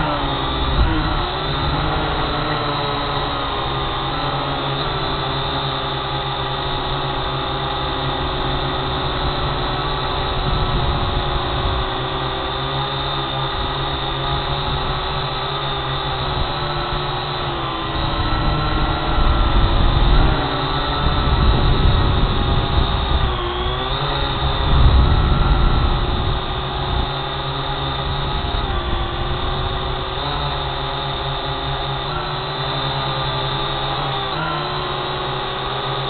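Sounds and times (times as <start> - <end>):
drone propellers buzzing: 0.0 - 36.0.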